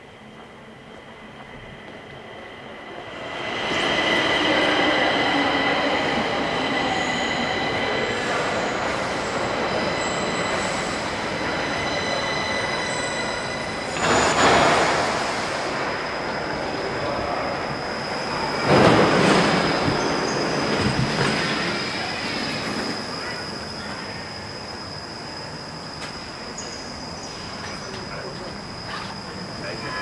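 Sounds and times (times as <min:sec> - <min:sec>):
train electric whine and rumble: 0:00.0 - 0:30.0.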